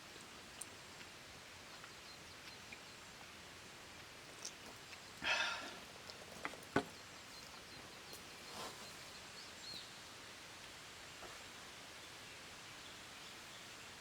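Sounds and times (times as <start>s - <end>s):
rustle: 0.0s - 14.0s.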